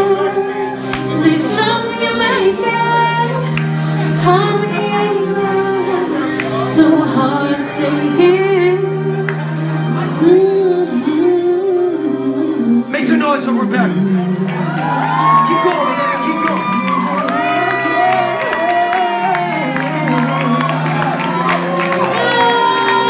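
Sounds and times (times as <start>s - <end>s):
woman singing into a microphone: 0.0s - 13.0s, 13.9s - 23.0s
backing track with bass notes: 0.0s - 23.0s.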